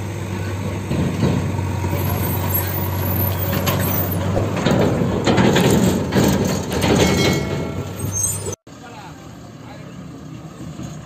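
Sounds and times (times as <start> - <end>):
diesel truck engine passing: 0.0 - 11.0.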